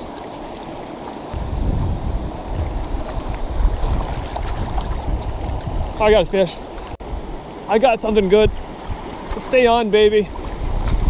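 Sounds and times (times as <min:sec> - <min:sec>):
wind buffeting microphone: 0:01.3 - 0:11.0.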